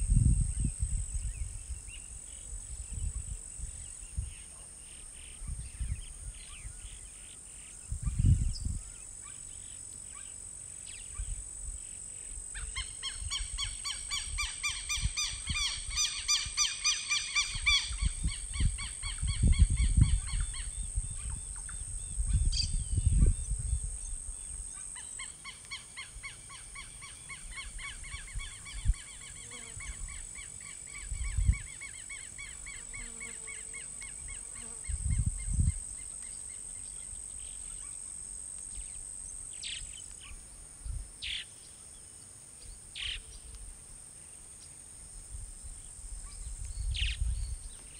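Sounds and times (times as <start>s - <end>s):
high insect drone: 0.0s - 47.9s.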